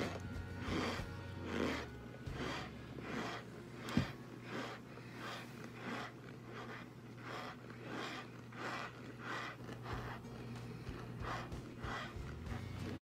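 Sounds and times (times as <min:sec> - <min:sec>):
person chewing crunchy food: 0:00.0 - 0:13.0
steady low hum: 0:00.0 - 0:13.0.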